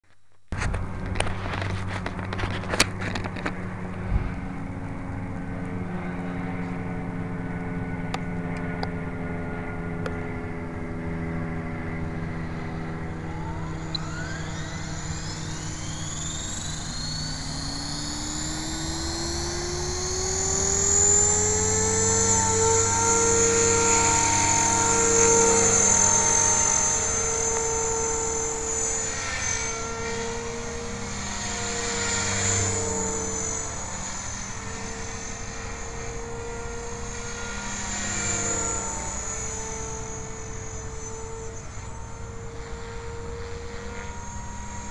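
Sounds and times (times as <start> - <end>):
rc helicopter motor whine: 0.5 - 44.9.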